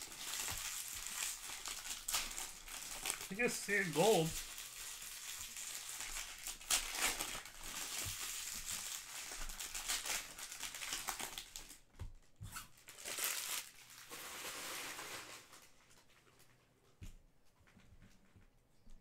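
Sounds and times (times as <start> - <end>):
foil wrappers crinkling and tearing: 0.0 - 11.8, 12.6 - 16.5.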